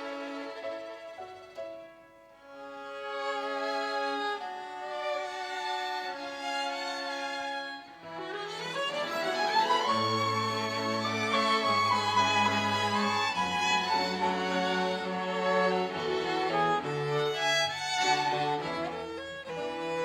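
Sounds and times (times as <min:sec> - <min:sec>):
violin playing slow notes: 0:00.0 - 0:20.0.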